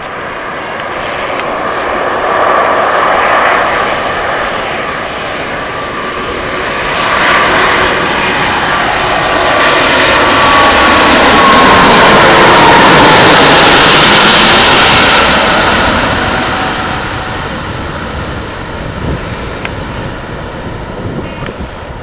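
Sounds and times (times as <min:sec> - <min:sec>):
jet engines rushing with whine: 0:00.0 - 0:22.0.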